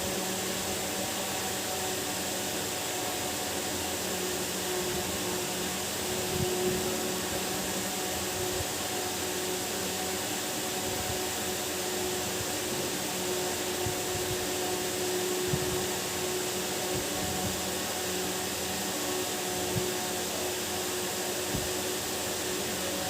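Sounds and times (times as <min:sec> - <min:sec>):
steady whirring: 0:00.0 - 0:23.0.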